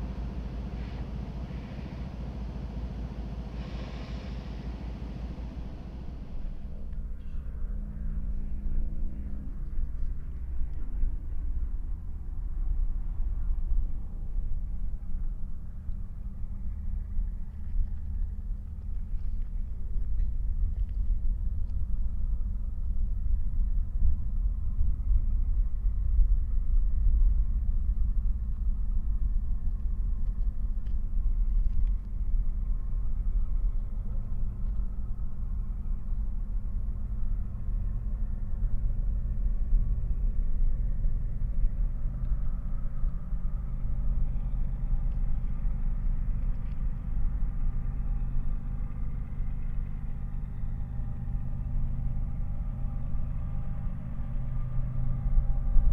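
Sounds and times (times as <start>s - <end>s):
faint engine tones: 0.0s - 55.9s
freight train rumbling: 0.0s - 55.9s.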